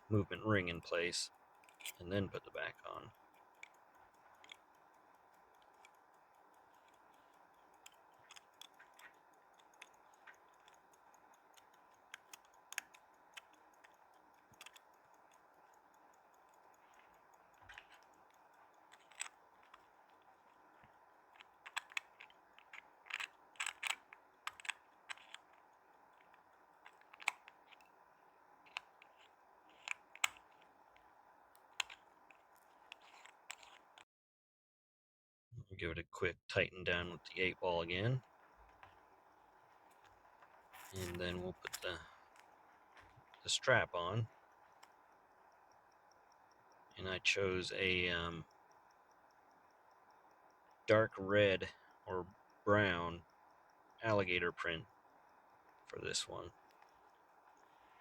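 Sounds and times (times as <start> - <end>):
small metal clicks and taps: 0.5 - 34.0, 37.9 - 58.0.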